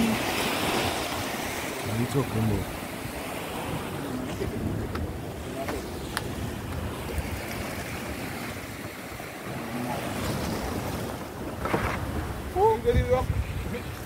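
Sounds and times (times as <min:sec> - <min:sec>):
sea surf on rocky shore: 0:00.0 - 0:14.0
wind buffeting microphone: 0:00.0 - 0:14.0.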